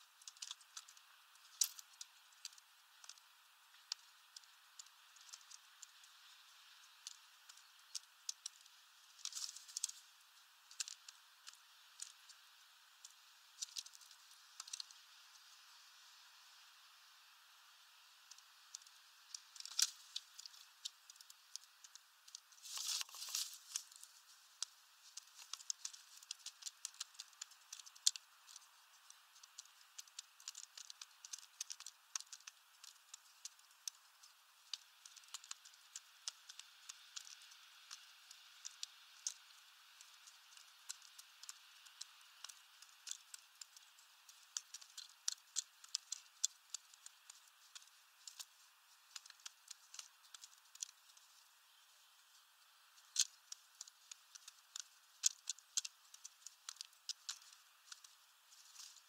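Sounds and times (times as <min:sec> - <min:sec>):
beaks pecking seeds: 0:00.0 - 0:59.0
rustle: 0:00.0 - 0:59.0.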